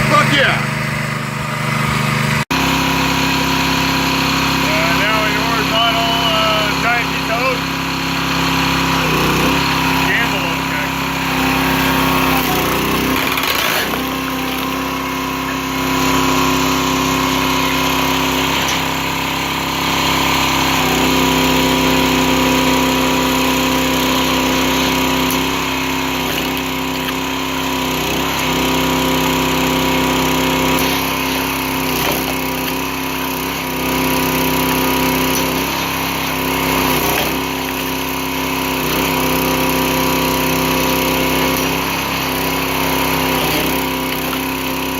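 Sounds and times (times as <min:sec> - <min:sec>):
log splitter engine running: 0:00.0 - 0:44.9.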